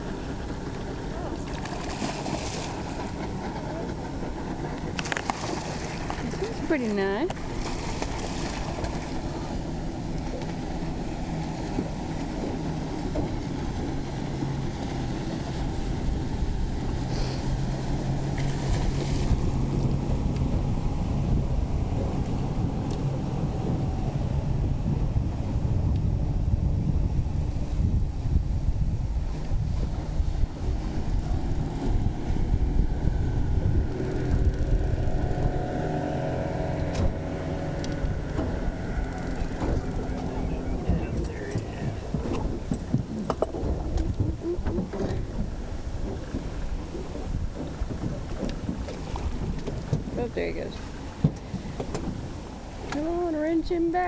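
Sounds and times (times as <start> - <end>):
outboard motor running: 0.0 - 54.0
water and wind noise: 0.0 - 54.0.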